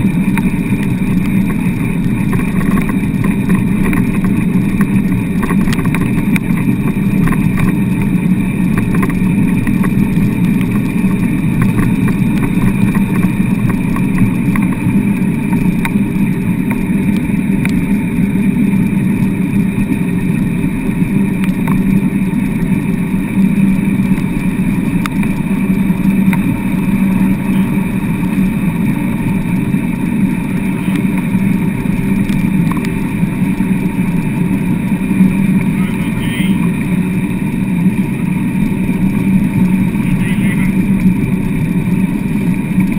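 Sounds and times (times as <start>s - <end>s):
wheels rolling over wet sand: 0.0s - 42.9s.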